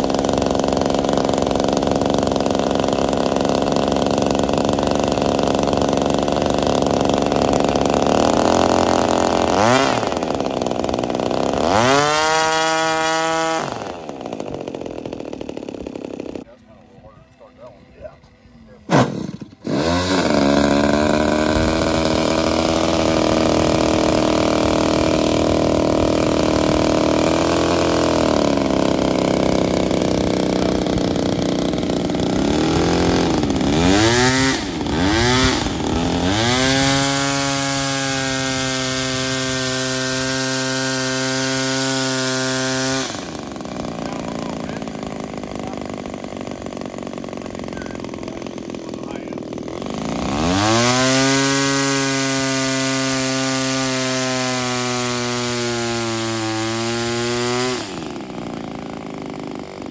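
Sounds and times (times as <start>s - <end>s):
model plane engine running: 0.0s - 59.9s.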